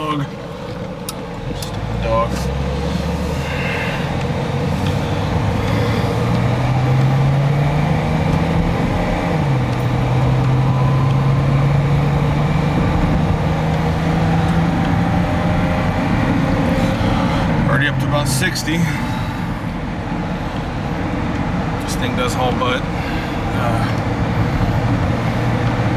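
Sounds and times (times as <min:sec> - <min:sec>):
car engine accelerating: 0:00.0 - 0:25.9
road noise: 0:00.0 - 0:25.9.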